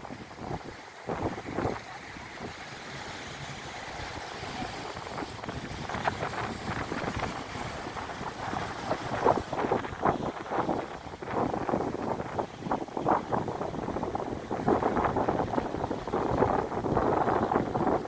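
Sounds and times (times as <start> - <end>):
surf rushing: 0.0 - 18.0
wind buffeting microphone: 0.0 - 18.0.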